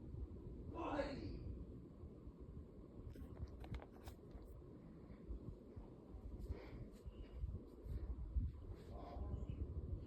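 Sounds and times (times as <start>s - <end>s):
ceiling fan running: 0.0s - 10.0s.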